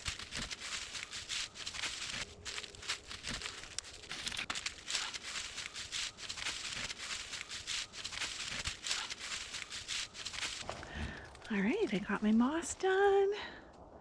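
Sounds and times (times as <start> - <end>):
rustling and crackling: 0.0 - 14.0.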